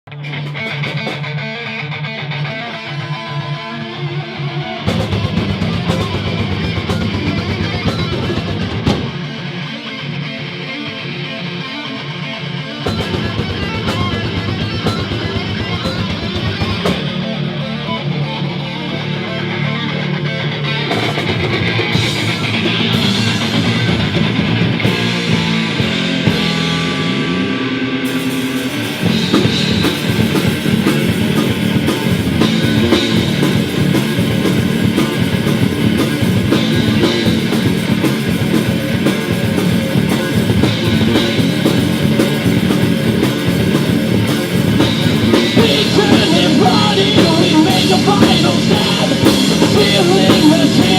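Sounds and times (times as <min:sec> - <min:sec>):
electric guitars: 0:00.0 - 0:50.9
heavy metal band playing: 0:00.1 - 0:50.9
drum kit: 0:00.2 - 0:01.5, 0:04.8 - 0:09.7, 0:12.8 - 0:17.7, 0:20.7 - 0:50.9.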